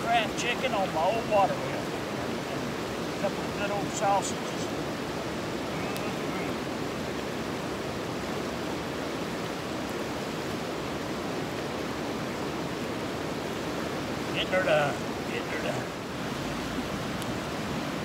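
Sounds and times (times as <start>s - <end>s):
stream rushing over rapids: 0.0s - 18.0s.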